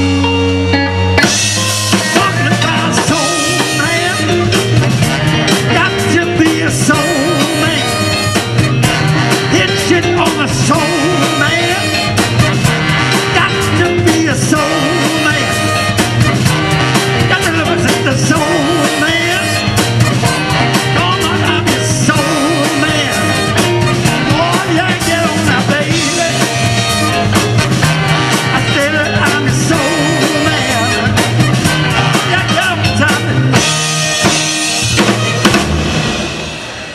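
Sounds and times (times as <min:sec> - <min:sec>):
bass line: 0:00.0 - 0:36.9
soul band playing live: 0:00.0 - 0:36.9
drum beat: 0:01.2 - 0:36.9.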